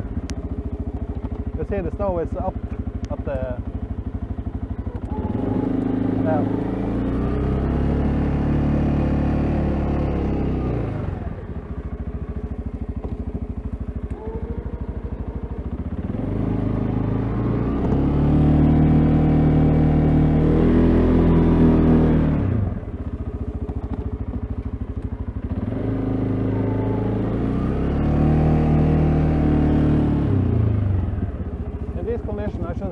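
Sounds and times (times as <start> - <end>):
single-cylinder engine revving: 0.0 - 32.9.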